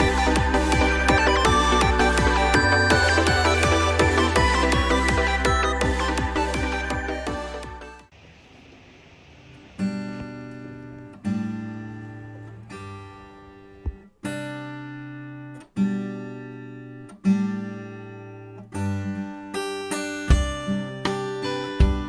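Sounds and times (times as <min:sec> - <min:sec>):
acoustic guitar strumming: 0:00.0 - 0:08.7, 0:09.3 - 0:22.0.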